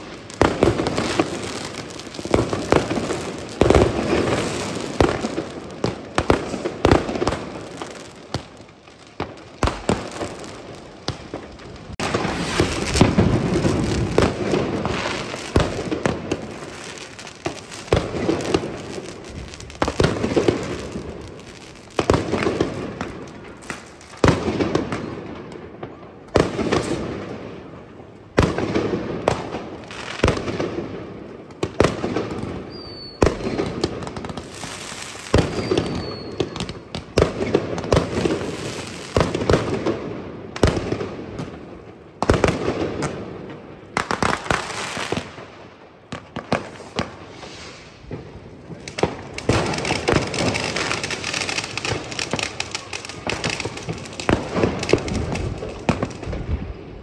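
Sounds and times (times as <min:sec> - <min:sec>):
firework bangs echoing: 0:00.0 - 0:56.8
firework crackling: 0:00.0 - 0:57.0.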